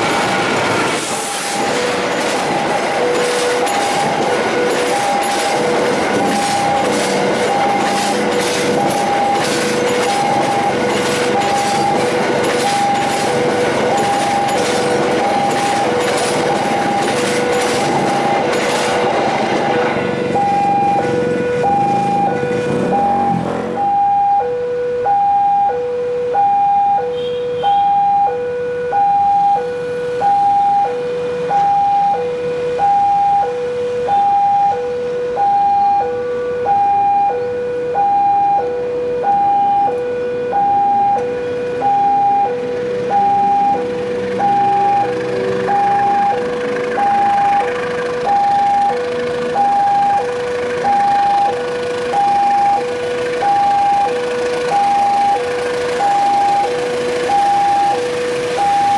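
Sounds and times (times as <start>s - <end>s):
diesel locomotive engine: 0.0s - 58.9s
level crossing two-tone alarm: 1.1s - 58.9s.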